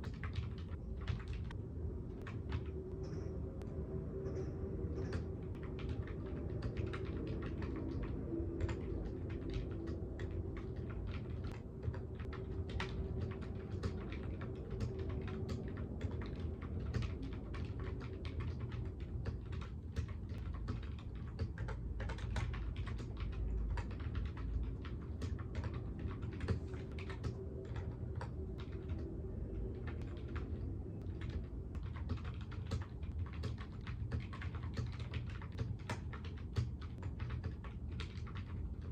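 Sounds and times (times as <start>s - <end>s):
low steady hum: 0.0s - 38.9s
computer keyboard key clicks: 5.0s - 29.1s, 29.8s - 38.9s.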